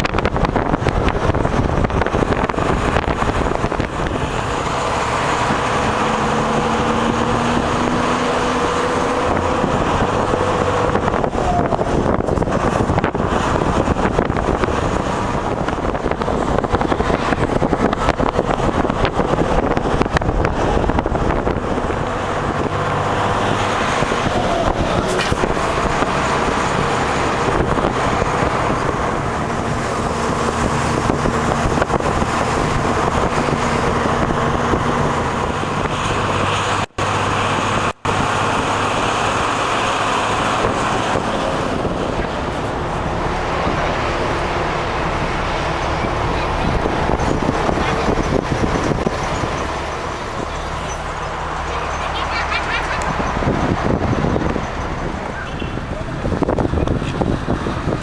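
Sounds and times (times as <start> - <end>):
bus engine rumble: 0.0 - 58.0
wind noise: 0.0 - 58.0.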